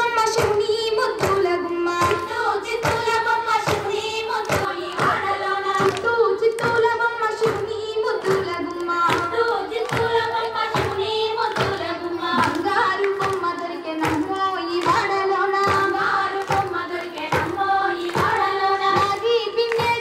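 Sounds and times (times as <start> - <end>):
hands clapping in rhythm: 0.0 - 20.0
women singing folk song: 0.0 - 20.0.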